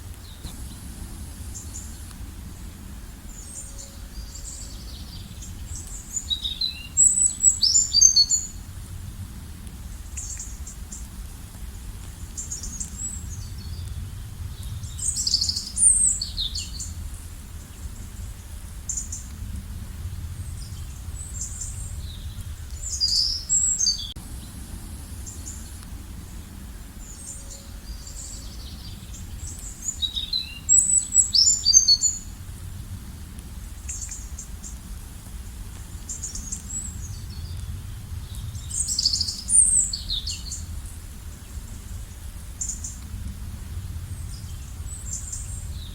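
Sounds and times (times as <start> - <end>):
low outdoor background hum: 0.0 - 45.9
songbirds chirping: 0.0 - 45.9.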